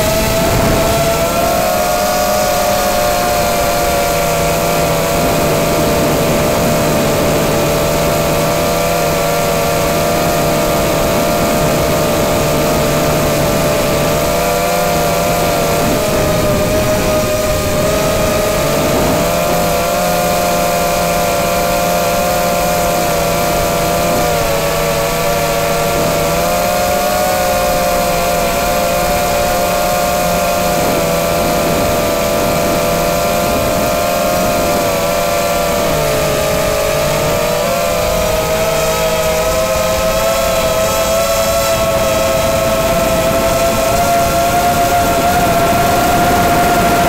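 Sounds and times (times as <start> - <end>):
drone propellers whining: 0.0 - 47.0.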